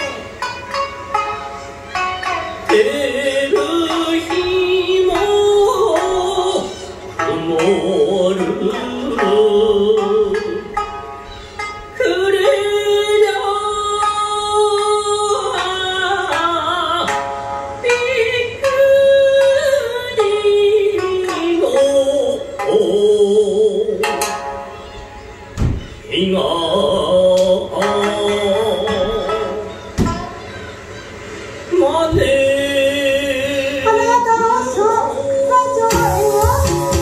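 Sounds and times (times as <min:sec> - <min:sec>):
instrumental backing music: 0:00.0 - 0:37.0
person singing with vibrato: 0:02.6 - 0:10.8, 0:11.8 - 0:24.4, 0:26.0 - 0:30.8, 0:31.7 - 0:37.0.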